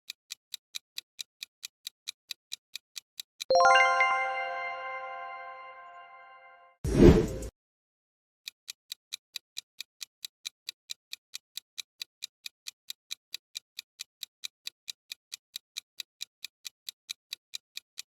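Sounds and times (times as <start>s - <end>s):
timer clock ticking: 0.1s - 5.7s, 8.7s - 18.0s.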